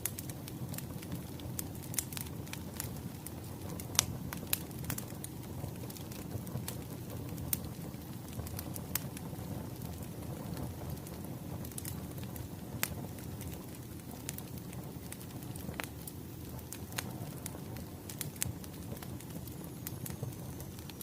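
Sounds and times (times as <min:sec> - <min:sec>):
firewood popping: 0:00.0 - 0:21.0
wood fire crackling: 0:00.0 - 0:21.0.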